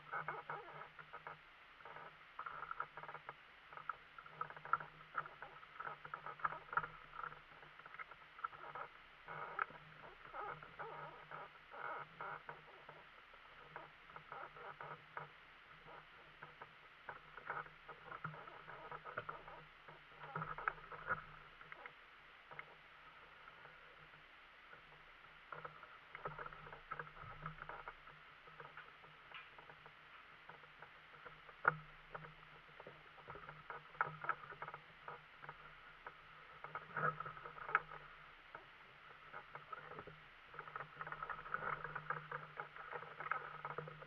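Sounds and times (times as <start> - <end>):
faint steady low hum: 0.0 - 44.0.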